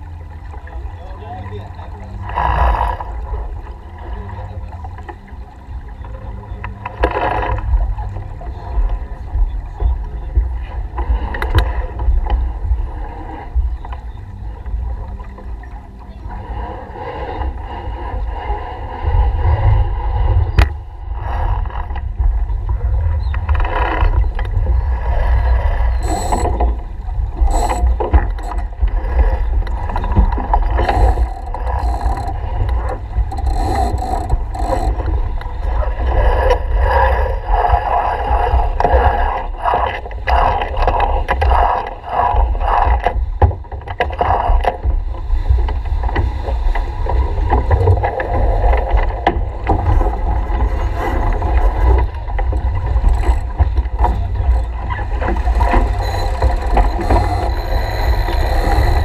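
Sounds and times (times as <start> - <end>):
water along boat hull: 0.0 - 59.0
wind buffeting microphone: 0.0 - 59.0.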